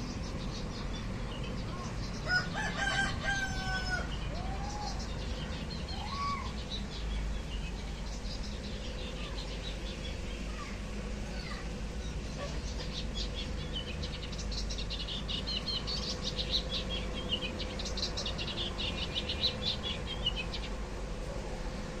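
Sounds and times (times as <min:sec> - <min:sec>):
birds chirping: 0:00.0 - 0:22.0
low background hum: 0:00.0 - 0:22.0.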